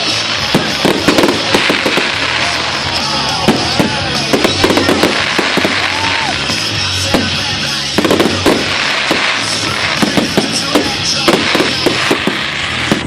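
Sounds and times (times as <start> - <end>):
fireworks bangs and crackling: 0.0 - 13.0
music playing: 0.0 - 13.0.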